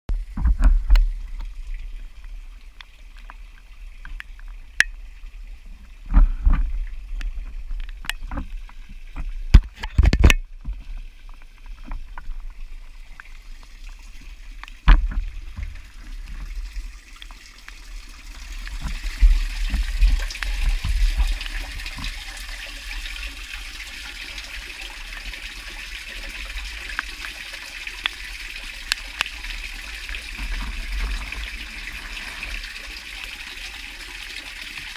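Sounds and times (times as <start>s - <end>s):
running water hiss: 0.2s - 34.9s.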